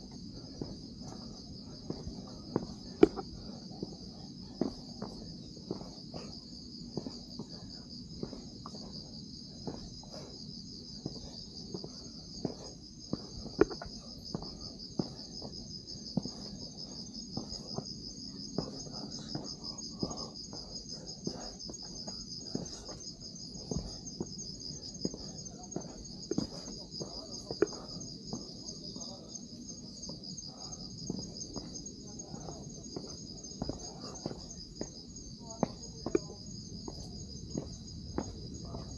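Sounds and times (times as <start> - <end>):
footsteps on a trail: 0.0 - 29.4, 30.0 - 38.9
night insects trilling: 0.0 - 38.9.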